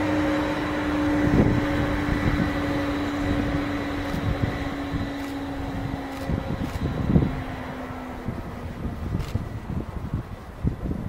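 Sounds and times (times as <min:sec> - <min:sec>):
locomotive engine drone: 0:00.0 - 0:11.0
train wheel noise: 0:00.0 - 0:11.0.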